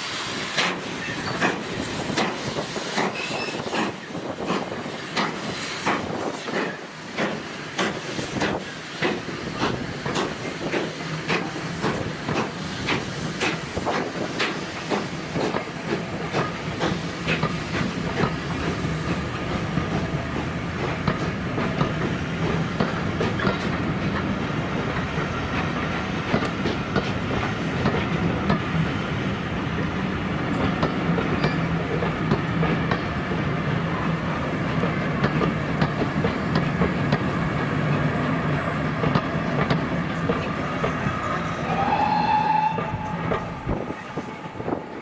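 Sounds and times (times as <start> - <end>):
train wheels clicking over rail joints: 0.0 - 34.0, 34.6 - 41.5.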